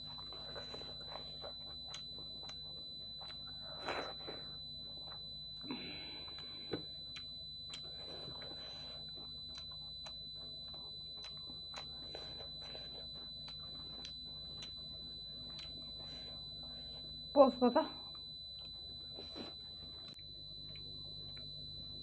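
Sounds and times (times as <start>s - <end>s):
person chewing with mouth clicks: 0.0s - 16.7s, 18.1s - 21.6s.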